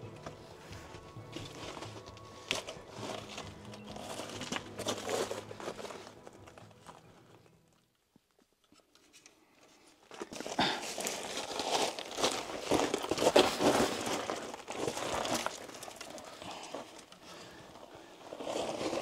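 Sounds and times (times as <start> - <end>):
crunching and scraping: 0.0 - 19.0.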